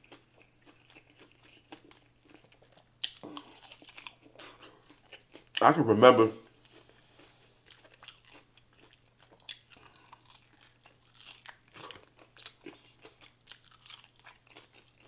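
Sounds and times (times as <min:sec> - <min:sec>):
person chewing crispy food: 0:00.0 - 0:05.7, 0:06.4 - 0:15.0.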